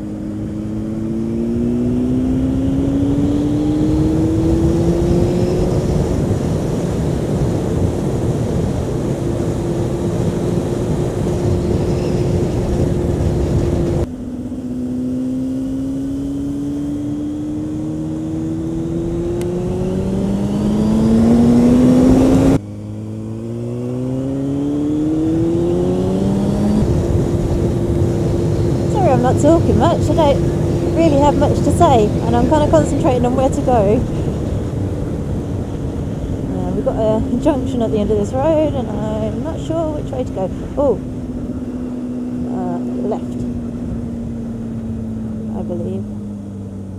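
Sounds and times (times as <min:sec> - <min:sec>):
wind rushing over microphone: 0:00.0 - 0:14.7, 0:15.6 - 0:46.9
motorcycle engine revving: 0:00.0 - 0:46.9.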